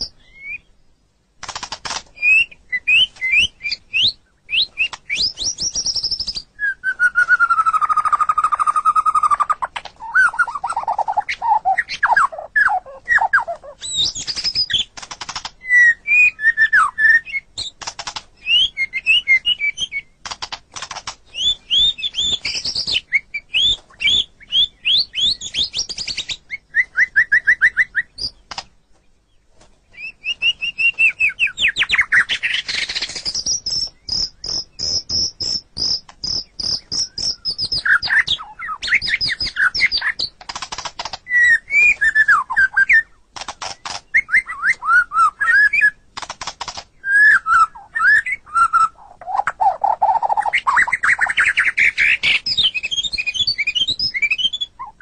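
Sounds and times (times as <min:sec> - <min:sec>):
bird singing whistles and trills: 0:00.0 - 0:00.8, 0:02.1 - 0:17.8, 0:18.4 - 0:20.2, 0:21.2 - 0:28.6, 0:29.9 - 0:40.4, 0:41.2 - 0:46.0, 0:47.0 - 0:55.0.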